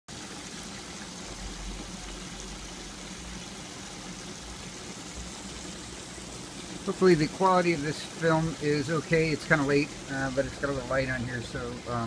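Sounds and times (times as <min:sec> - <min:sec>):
water rushing and bubbling: 0:00.1 - 0:12.0.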